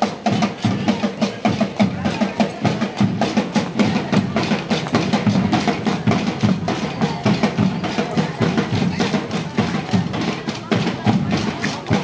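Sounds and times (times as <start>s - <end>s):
marching band drums: 0.0s - 12.0s.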